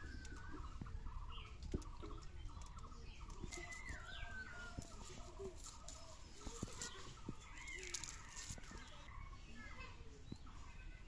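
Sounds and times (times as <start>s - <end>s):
birds chirping and calling: 0.0s - 11.0s.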